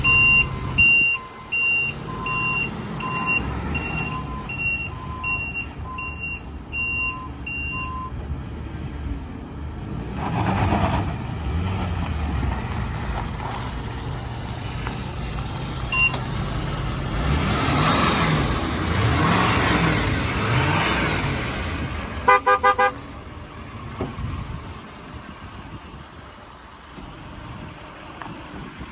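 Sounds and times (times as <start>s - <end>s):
diesel pickup engine running: 0.0s - 10.0s, 11.1s - 28.9s.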